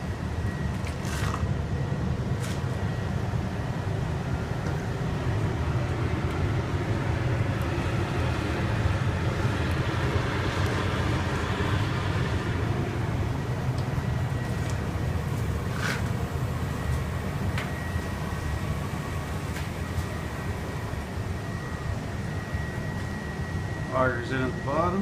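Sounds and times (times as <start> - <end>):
furnace fans humming: 0.0 - 25.0.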